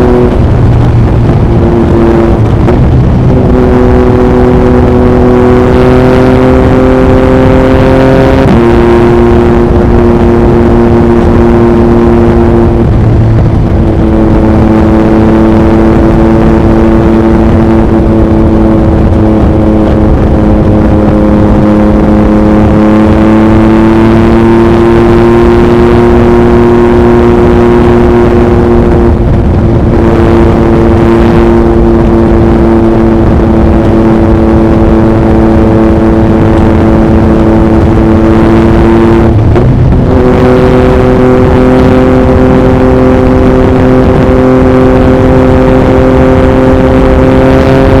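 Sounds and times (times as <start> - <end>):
motorcycle engine cruising: 0.0 - 48.0
wind rushing over microphone: 0.0 - 48.0.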